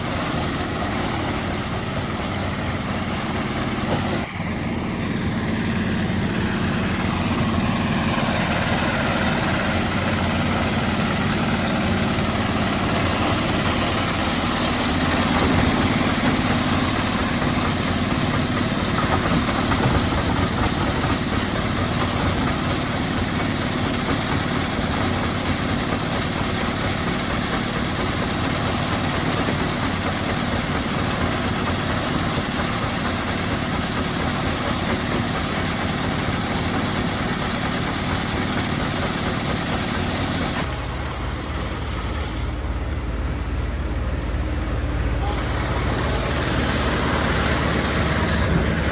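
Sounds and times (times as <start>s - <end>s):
heavy machinery engine rumbling: 0.0s - 48.9s.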